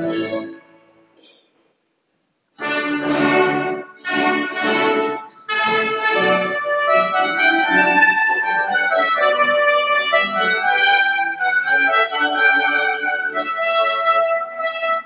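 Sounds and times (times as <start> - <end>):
baroque orchestra playing: 0.0 - 1.0, 2.6 - 15.0.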